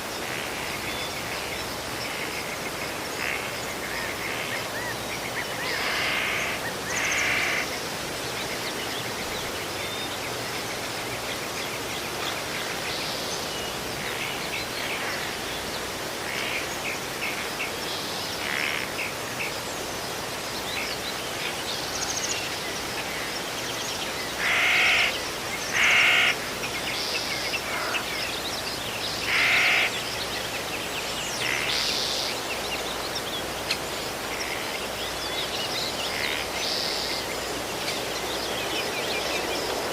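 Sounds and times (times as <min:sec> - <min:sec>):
outdoor background hiss: 0:00.0 - 0:39.9
wild birds chirping: 0:00.0 - 0:39.9.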